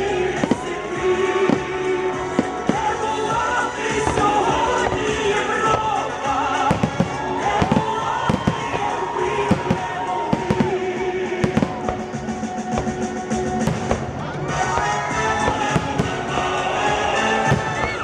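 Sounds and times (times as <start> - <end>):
fireworks bangs and crackles: 0.0 - 18.0
music playing: 0.0 - 18.0.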